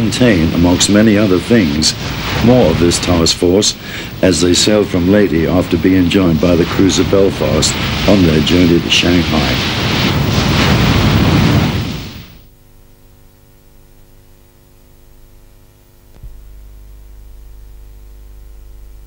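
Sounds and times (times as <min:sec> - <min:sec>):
faint electrical hum: 0:00.0 - 0:19.0
film soundtrack hiss: 0:00.0 - 0:19.0.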